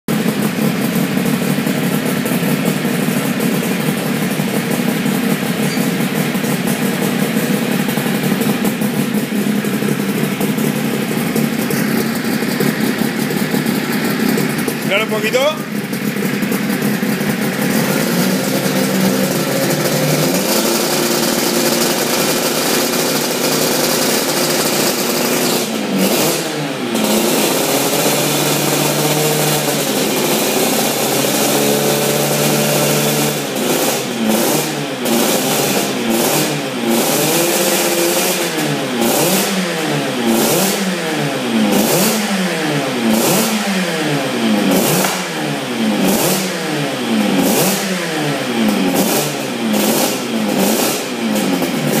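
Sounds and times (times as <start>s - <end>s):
two-stroke engine idling and revving: 0.0s - 52.0s.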